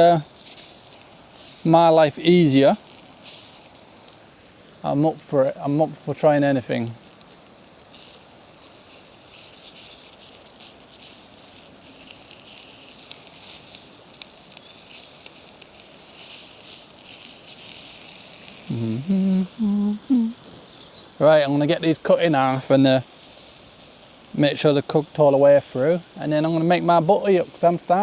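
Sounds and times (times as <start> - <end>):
sausages sizzling in a pan: 0.0 - 28.0.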